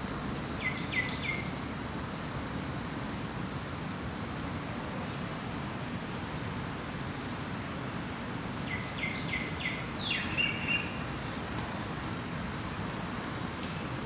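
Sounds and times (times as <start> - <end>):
city background rumble: 0.0 - 14.0.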